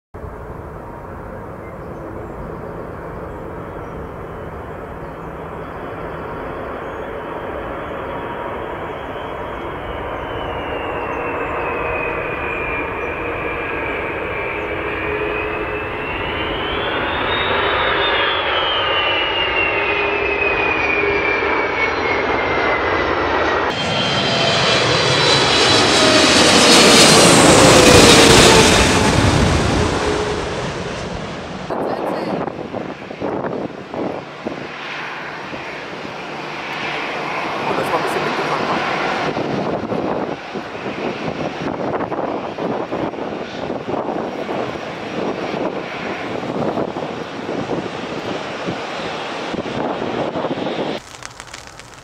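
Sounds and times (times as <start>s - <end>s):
jet engines whining: 0.2s - 51.9s
jet airliner passing close: 0.2s - 52.0s.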